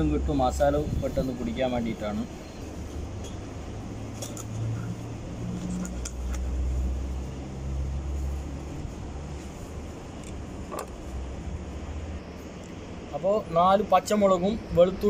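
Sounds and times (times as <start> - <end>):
motor vehicle engine rumble: 0.0 - 13.2.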